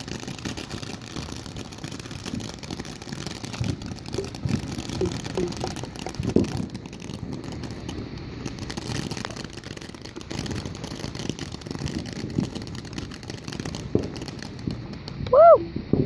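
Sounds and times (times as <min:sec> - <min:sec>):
firework fizzing and crackling: 0:00.0 - 0:16.0.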